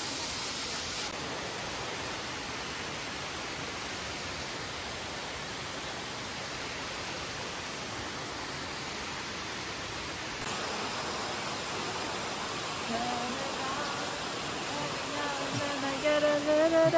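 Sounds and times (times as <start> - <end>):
water rushing: 0.0 - 16.9.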